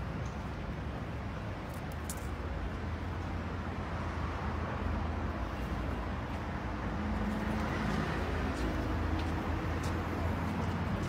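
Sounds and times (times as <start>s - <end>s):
distant road traffic rumble: 0.0s - 11.0s.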